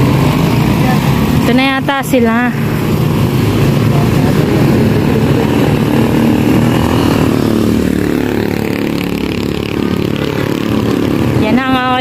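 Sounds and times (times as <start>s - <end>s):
roadside traffic noise: 0.0s - 12.0s
vehicle engine low rumble: 0.0s - 12.0s.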